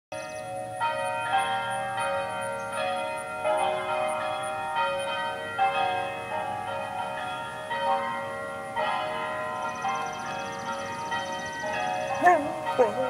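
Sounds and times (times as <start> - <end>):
church bells ringing a peal: 0.1 - 13.0.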